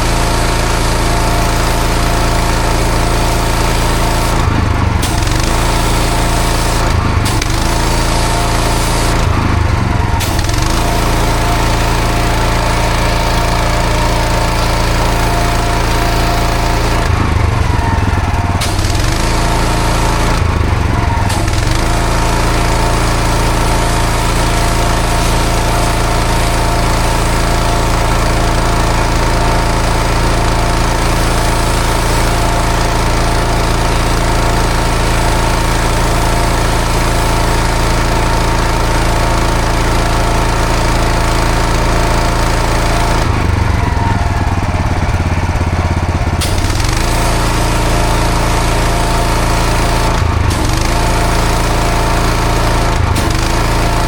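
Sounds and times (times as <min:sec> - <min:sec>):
water spray hissing on paving: 0:00.0 - 0:17.6, 0:18.6 - 0:20.6, 0:21.3 - 0:43.2, 0:46.4 - 0:54.0
pressure washer engine running: 0:00.0 - 0:54.0.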